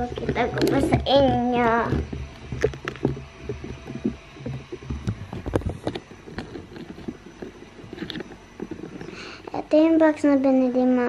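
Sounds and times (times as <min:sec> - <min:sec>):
footsteps: 0:00.0 - 0:09.5.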